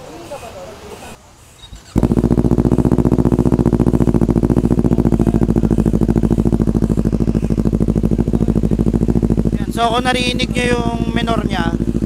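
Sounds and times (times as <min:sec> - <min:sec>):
motorcycle engine idling: 0:01.8 - 0:12.0.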